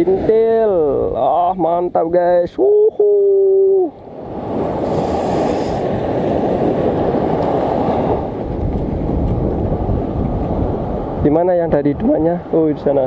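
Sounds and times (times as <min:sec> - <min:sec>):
surf on beach: 0:00.0 - 0:13.0
wind on microphone: 0:00.0 - 0:13.0.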